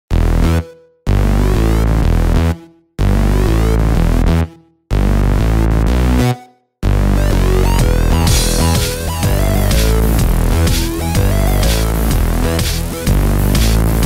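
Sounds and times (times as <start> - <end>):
electronic music with heavy bass: 0.1 - 14.0.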